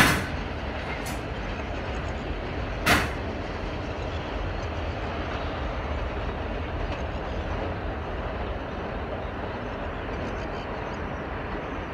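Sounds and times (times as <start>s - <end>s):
passenger train running on track: 0.0s - 11.9s.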